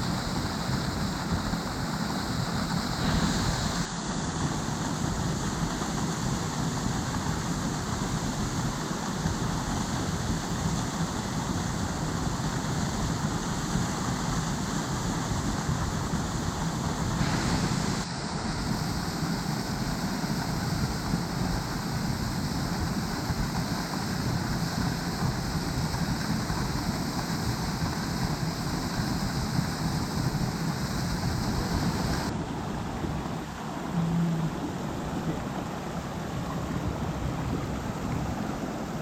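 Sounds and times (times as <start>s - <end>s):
rushing water: 0.0s - 39.0s.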